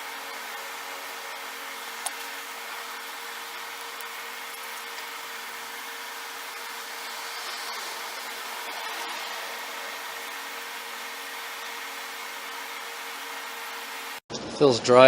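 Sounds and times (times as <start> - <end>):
fan whirring hiss: 0.0 - 14.2
low machine hum: 0.0 - 14.2.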